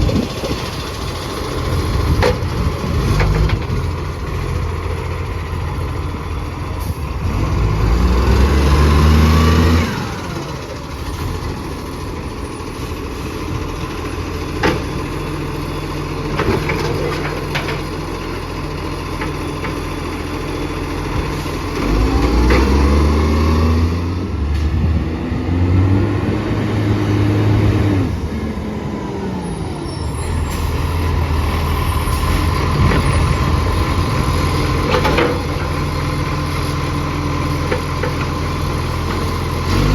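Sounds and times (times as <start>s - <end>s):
garbage truck engine revving: 0.0s - 39.9s.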